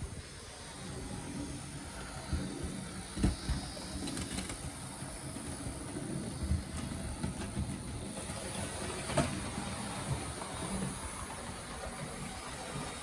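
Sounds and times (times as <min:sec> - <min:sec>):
wheels rumbling over rails: 0:00.0 - 0:13.0.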